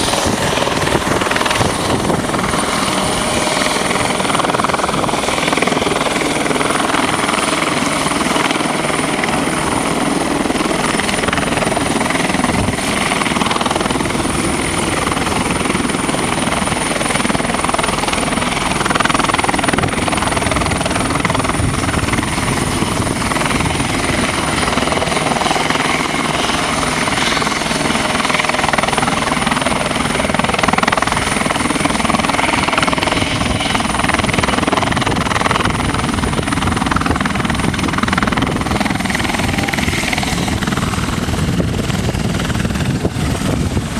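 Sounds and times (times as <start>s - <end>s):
helicopter rotor and engine: 0.0s - 43.9s
high-pitched turbine whine: 0.0s - 43.9s.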